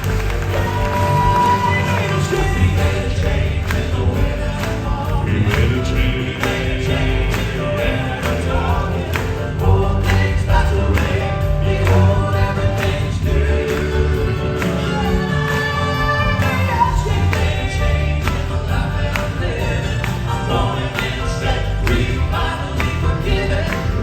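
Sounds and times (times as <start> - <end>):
live band with bass: 0.0 - 24.0
male vocal quartet singing: 0.0 - 24.0.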